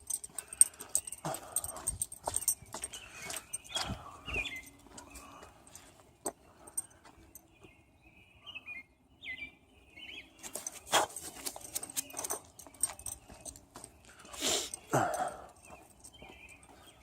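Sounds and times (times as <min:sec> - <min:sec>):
footsteps and scuffs: 0:00.0 - 0:07.8, 0:10.4 - 0:17.0
birds chirping: 0:00.0 - 0:17.0.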